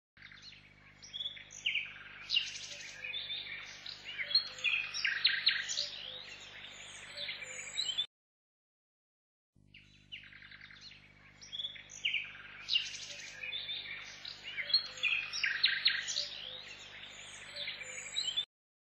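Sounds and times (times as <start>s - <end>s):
small birds chirping: 0.2s - 8.1s, 9.6s - 18.5s.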